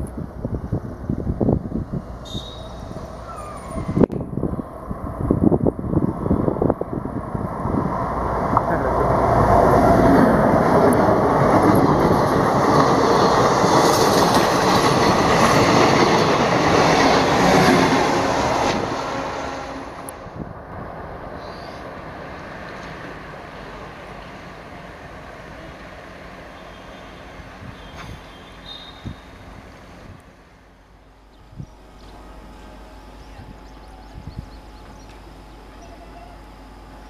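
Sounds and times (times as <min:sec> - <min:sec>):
train passing: 0:00.0 - 0:37.0.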